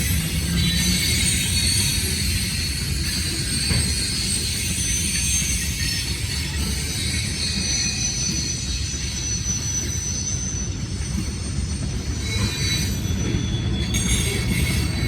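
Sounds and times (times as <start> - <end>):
high-pitched wheel squeal: 0.0 - 15.0
train wheels rumbling on rail: 0.0 - 15.0.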